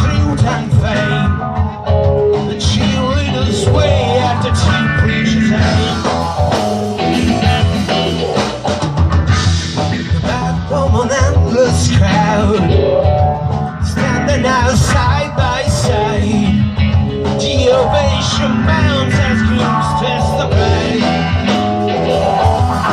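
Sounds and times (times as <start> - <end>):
live rock band playing: 0.0 - 22.9.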